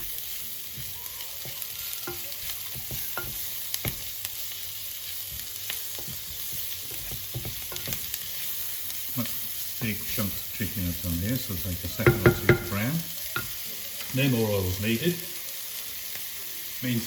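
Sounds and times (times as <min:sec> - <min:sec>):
utensil stirring against pan: 0:00.0 - 0:16.9
chicken sizzling in a pan: 0:00.0 - 0:17.0.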